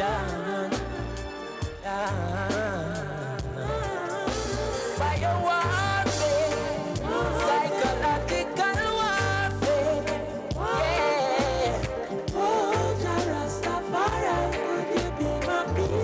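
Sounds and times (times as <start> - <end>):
reggae music: 0.0 - 16.0.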